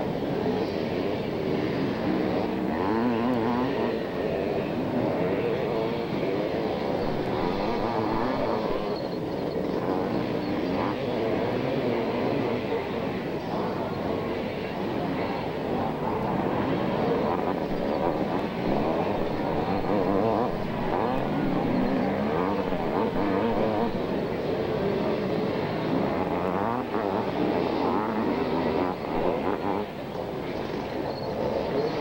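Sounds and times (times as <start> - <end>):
motocross bikes racing: 0.0 - 32.0.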